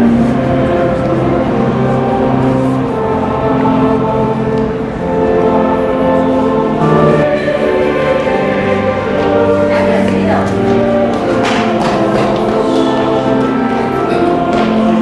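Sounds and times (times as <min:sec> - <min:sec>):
choir singing sacred music: 0:00.0 - 0:15.0.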